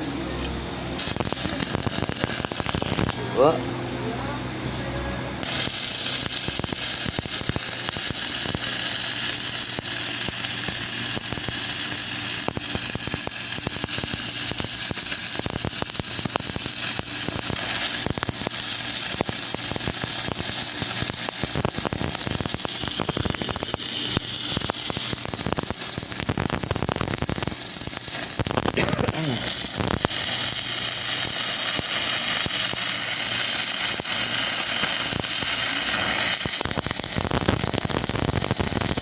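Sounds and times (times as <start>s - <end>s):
welding machine humming: 0.0s - 39.0s
welding arc crackling: 0.4s - 4.7s, 5.4s - 39.0s.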